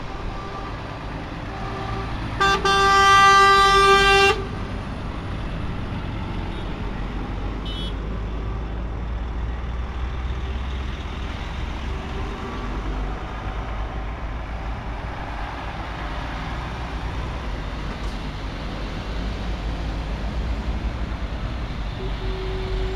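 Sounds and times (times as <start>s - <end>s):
truck diesel engines rumbling: 0.0s - 22.9s.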